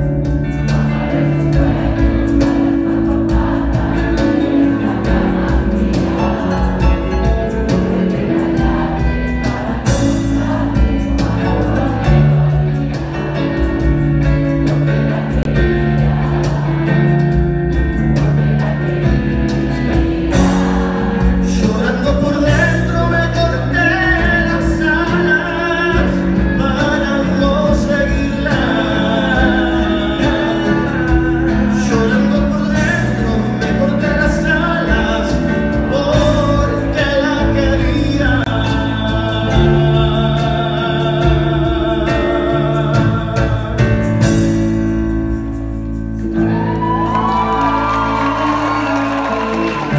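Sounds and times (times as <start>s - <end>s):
man singing: 0.0s - 44.8s
electric bass guitar: 0.0s - 49.9s.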